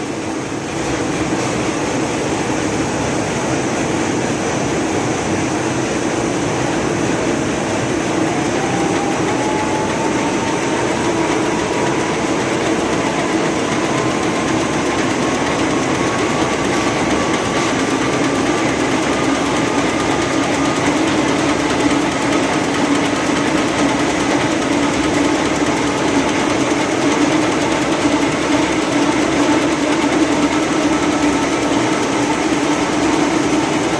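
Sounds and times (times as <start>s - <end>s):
machine whir and clatter: 0.0s - 33.9s
thin machine whine: 1.6s - 33.9s.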